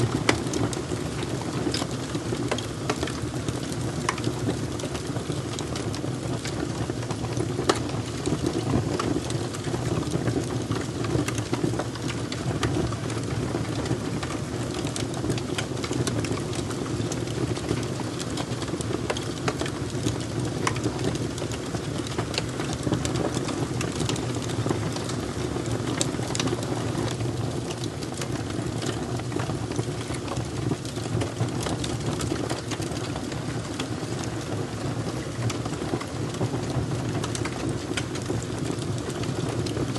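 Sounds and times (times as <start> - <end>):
fire crackling and popping: 0.0 - 39.9
low fire rumble: 0.0 - 39.9.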